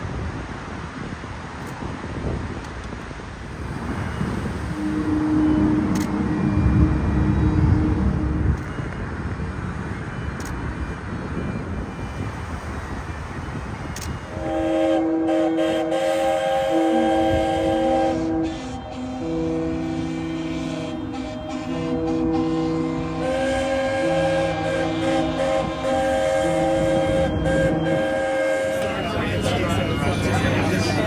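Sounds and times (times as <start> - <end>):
wind: 0.0 - 31.0
ship horns sounding: 3.6 - 31.0.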